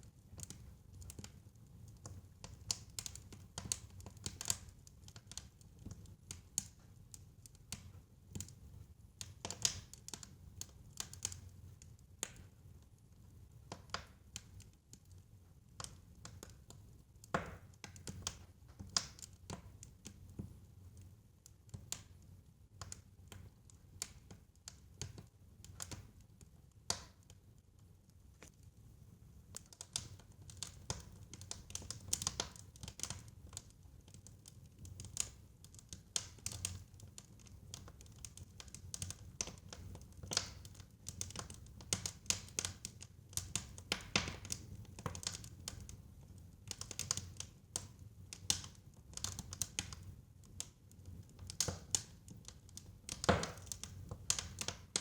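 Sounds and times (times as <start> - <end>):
wood fire crackling: 0.1 - 55.0.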